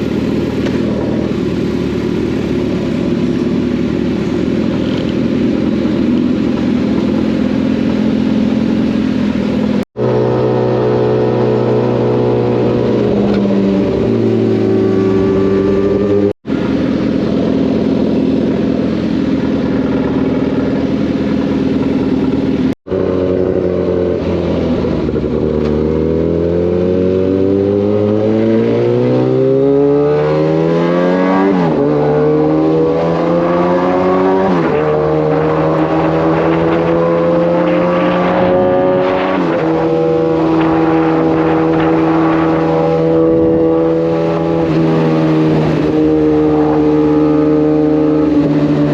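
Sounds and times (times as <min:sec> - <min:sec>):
motorcycle engines accelerating hard: 0:00.0 - 0:48.9.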